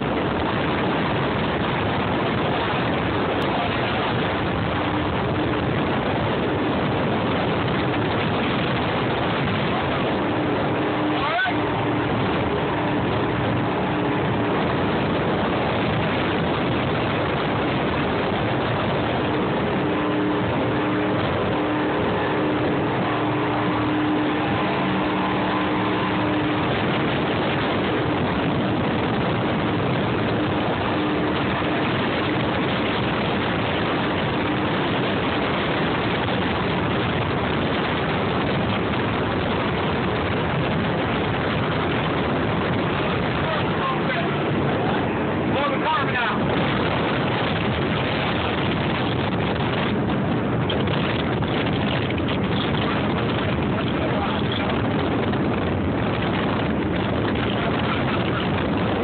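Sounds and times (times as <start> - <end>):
boat engines running at speed: 0.0 - 59.0
faint engine hum: 0.0 - 59.0.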